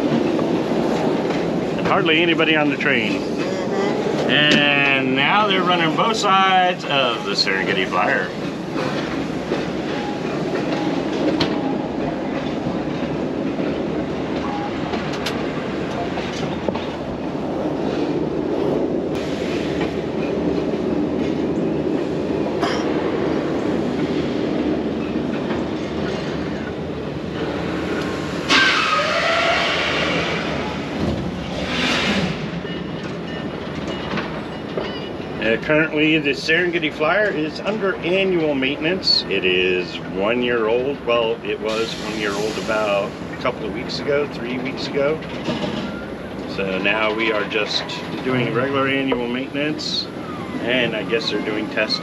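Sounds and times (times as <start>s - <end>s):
train rumbling with wheel clicks: 0.0s - 51.9s.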